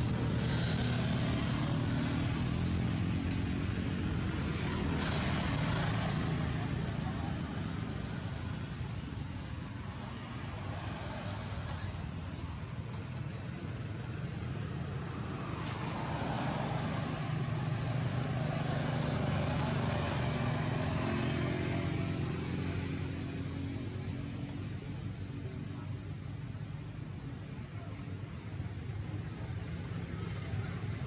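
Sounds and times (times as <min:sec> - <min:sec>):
motor vehicle engine: 0:00.0 - 0:27.8
outdoor background noise: 0:00.0 - 0:31.0.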